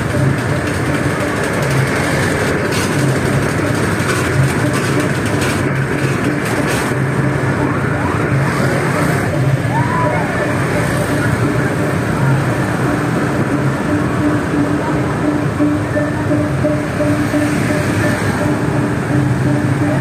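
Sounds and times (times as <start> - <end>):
street traffic engine and road noise: 0.0 - 20.0.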